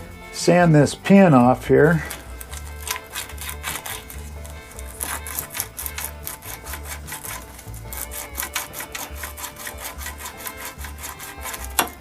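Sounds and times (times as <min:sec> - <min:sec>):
background music with low beat: 0:00.0 - 0:12.0
sandpaper scraping metal pin: 0:01.9 - 0:12.0.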